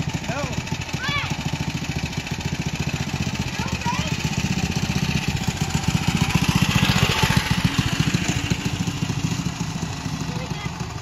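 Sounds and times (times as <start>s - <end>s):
minibike engine running: 0.0s - 11.0s.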